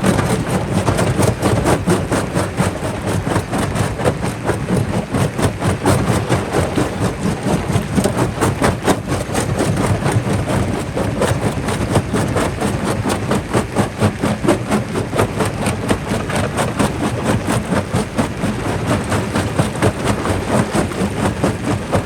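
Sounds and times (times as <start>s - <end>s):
rock crusher rumbling: 0.0s - 22.0s.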